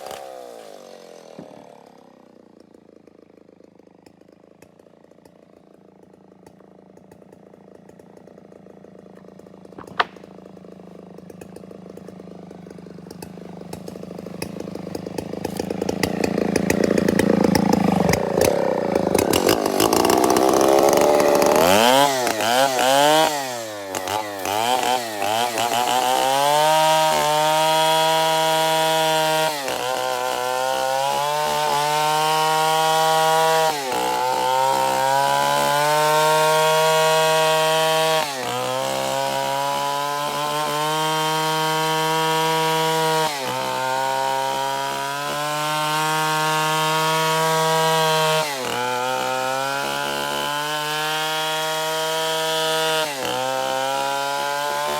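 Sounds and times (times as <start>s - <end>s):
chainsaw revving and cutting wood: 0.0s - 54.9s.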